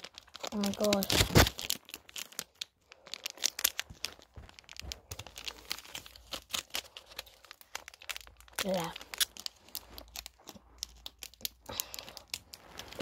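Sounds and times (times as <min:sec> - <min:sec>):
gum wrapper crinkling: 0:00.0 - 0:13.0.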